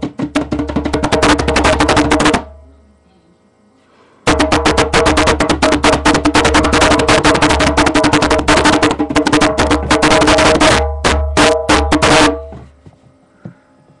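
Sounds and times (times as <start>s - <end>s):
bongo drums played by hand: 0.0s - 2.6s, 4.3s - 12.9s.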